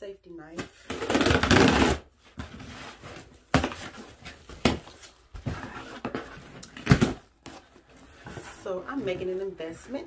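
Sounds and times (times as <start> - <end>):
cardboard scraping and rustling: 1.3 - 10.0.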